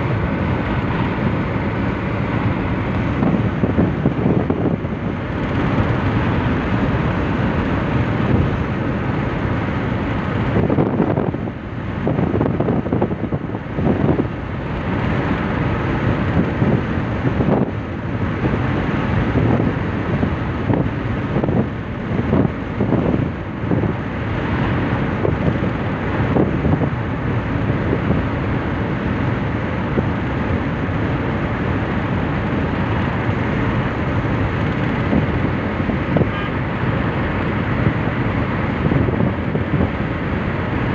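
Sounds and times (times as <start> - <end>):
car road noise: 0.0 - 40.9
wind on microphone: 0.0 - 40.9.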